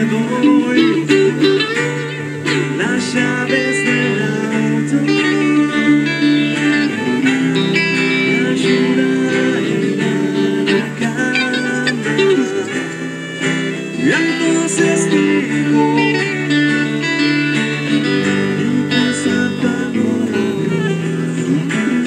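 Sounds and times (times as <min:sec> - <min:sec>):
acoustic guitar strumming: 0:00.0 - 0:22.0
saxophone melody: 0:00.1 - 0:19.6, 0:20.3 - 0:22.0.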